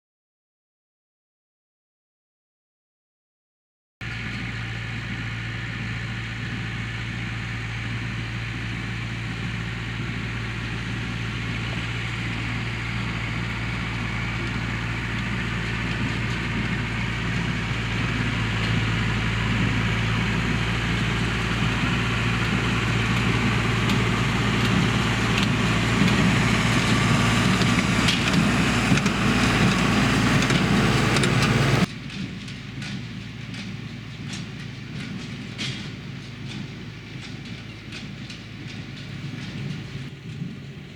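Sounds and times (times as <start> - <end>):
tractor engine running: 4.0 - 40.9.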